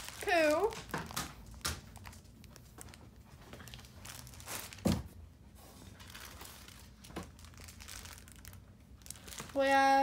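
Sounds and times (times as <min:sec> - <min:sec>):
plastic bags crinkling: 0:00.0 - 0:05.2, 0:05.9 - 0:10.0.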